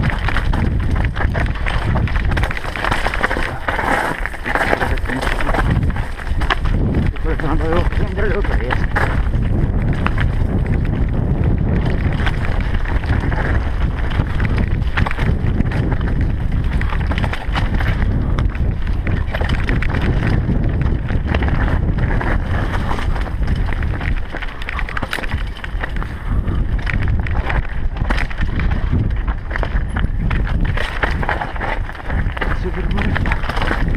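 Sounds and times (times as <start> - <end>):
bike rattling over stones: 0.0 - 33.9
tyres crunching on gravel: 0.0 - 33.9
wind buffeting microphone: 0.0 - 33.9.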